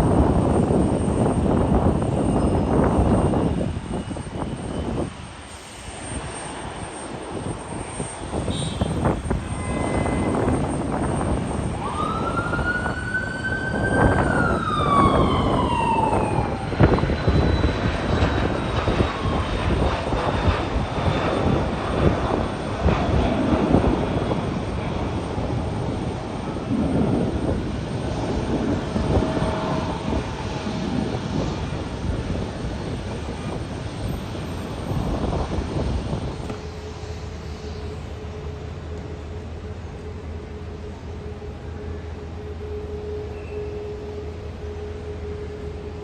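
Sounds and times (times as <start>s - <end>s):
high turbine whine: 0.0s - 46.0s
jet engine rumble: 0.0s - 46.0s.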